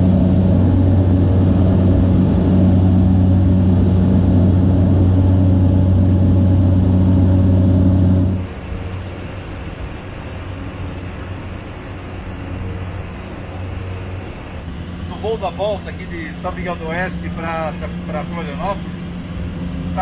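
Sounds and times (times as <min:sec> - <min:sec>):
hissy cabin noise: 0:00.0 - 0:20.0
propeller engine drone: 0:00.0 - 0:20.0.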